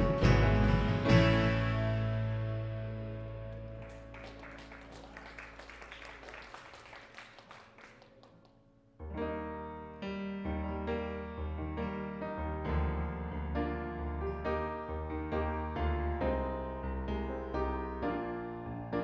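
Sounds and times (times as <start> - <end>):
piano music: 0.0 - 5.6, 9.0 - 19.0.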